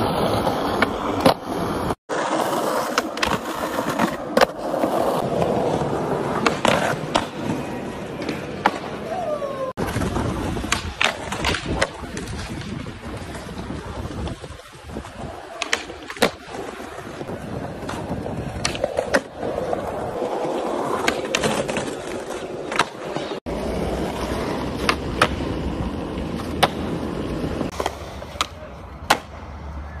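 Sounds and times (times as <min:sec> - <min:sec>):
skateboard wheels rolling: 0:00.0 - 0:30.0
skateboard tail clacks: 0:02.5 - 0:29.4.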